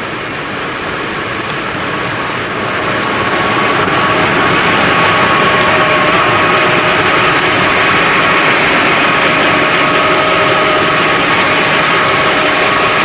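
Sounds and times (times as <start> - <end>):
faint steady whine: 0.0 - 13.0
printing press mechanical din: 2.4 - 13.0.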